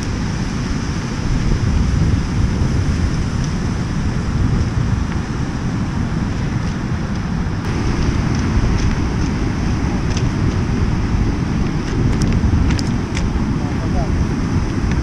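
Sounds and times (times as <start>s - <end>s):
breaking surf: 0.0s - 15.0s
wind buffeting microphone: 0.0s - 15.0s.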